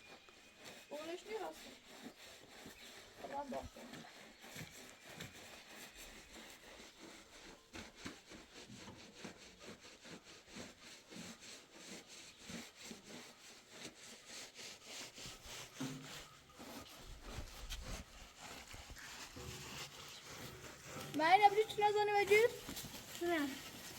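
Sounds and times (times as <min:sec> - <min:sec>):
sawing strokes: 0:00.0 - 0:23.9.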